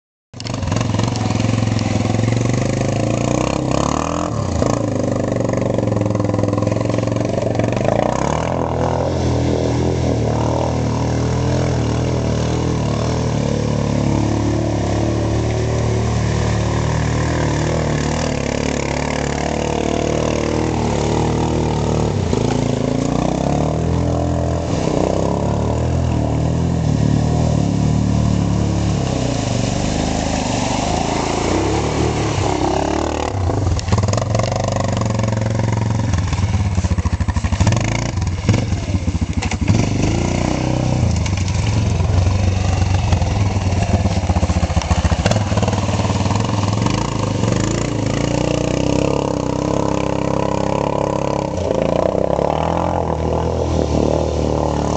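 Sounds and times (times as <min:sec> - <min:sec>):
atv engine revving: 0:00.4 - 0:54.9
water splashing: 0:00.4 - 0:54.9.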